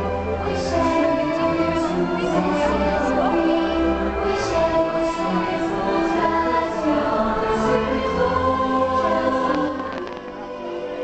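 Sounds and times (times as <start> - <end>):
choir singing held notes: 0.0 - 11.0
orchestral music over speakers: 0.0 - 11.0.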